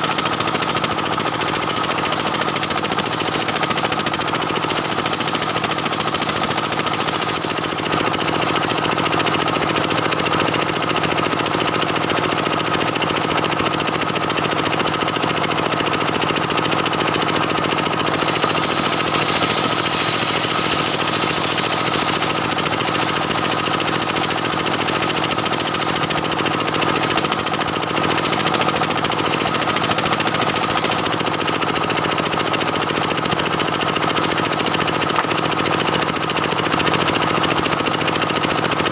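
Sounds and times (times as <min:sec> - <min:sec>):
chainsaw cutting through wood: 0:00.0 - 0:38.9.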